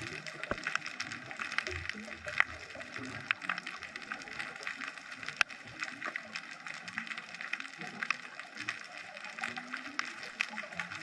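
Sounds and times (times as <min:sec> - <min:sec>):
underwater crackle of clicks: 0:00.0 - 0:11.0.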